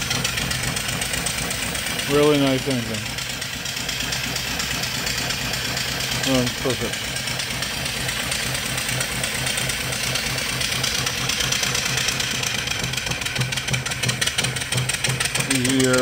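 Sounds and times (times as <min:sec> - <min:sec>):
steam engine exhaust puffing: 0:00.0 - 0:16.0.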